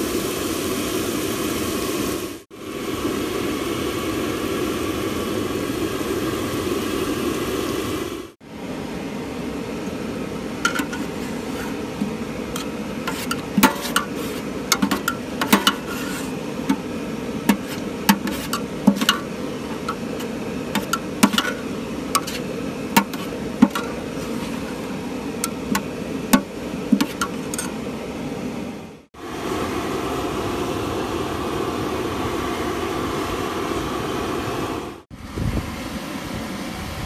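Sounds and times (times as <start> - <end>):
burner rushing hum: 0.0 - 37.0.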